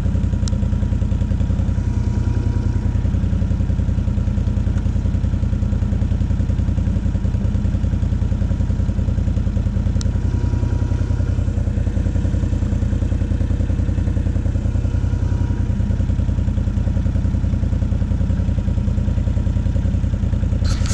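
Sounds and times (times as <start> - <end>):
atv engine idling: 0.0 - 20.9.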